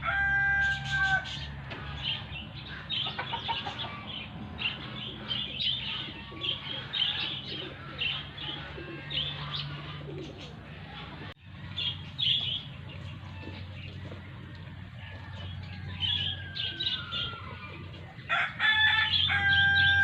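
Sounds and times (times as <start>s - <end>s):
birds chirping: 0.0s - 20.0s
birds cooing: 0.0s - 20.0s.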